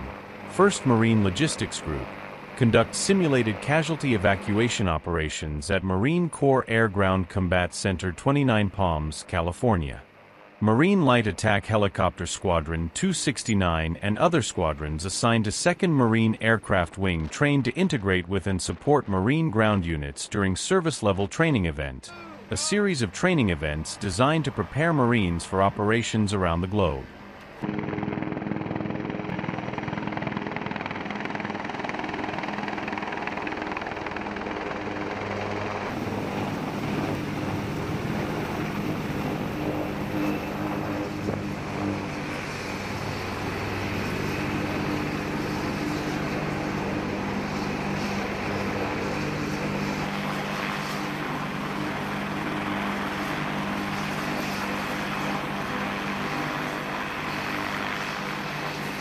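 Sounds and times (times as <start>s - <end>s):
helicopter turbine and rotor drone: 0.0s - 59.0s.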